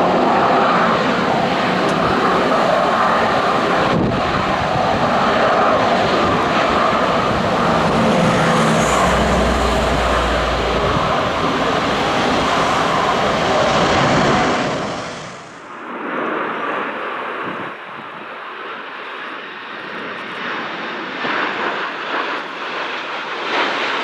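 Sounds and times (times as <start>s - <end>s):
wind rumble on microphone: 0.0s - 22.6s
jet engines roaring: 0.0s - 24.0s.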